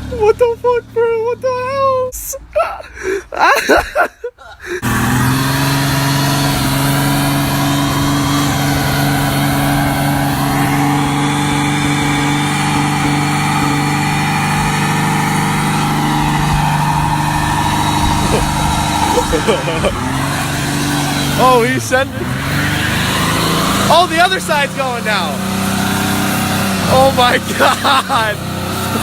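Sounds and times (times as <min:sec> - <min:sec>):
engine droning at high revs: 0:00.0 - 0:02.1, 0:04.6 - 0:29.0.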